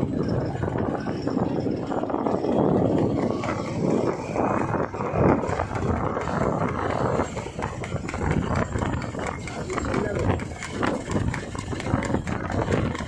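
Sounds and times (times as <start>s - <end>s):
horse hooves clattering on asphalt: 0.0s - 13.0s
motorbikes and road traffic: 0.0s - 13.0s.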